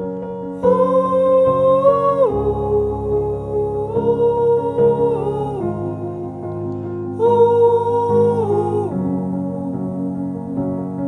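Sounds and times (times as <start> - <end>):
low steady accompaniment: 0.0 - 11.0.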